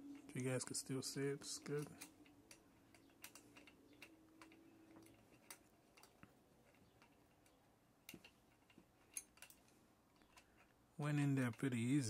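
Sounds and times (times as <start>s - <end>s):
metallic clicks of bolts threading: 0.0s - 12.0s.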